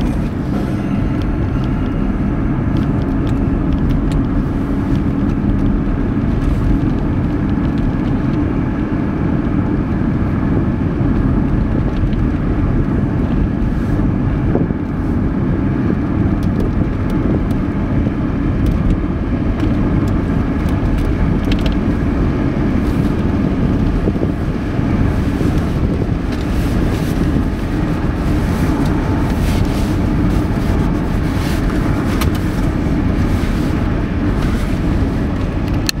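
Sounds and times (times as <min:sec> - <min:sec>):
steady low-pitched noise: 0:00.0 - 0:36.0.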